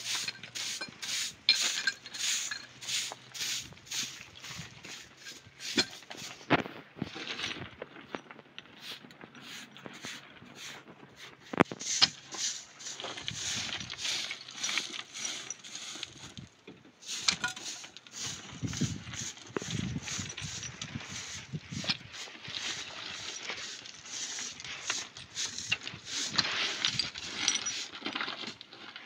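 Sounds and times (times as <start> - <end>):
masonry scraping and knocking: 0.0 - 28.7.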